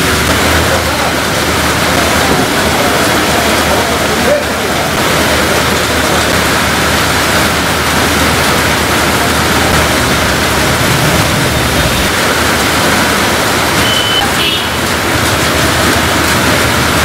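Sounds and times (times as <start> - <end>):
heavy rain on a wet street: 0.0 - 17.0.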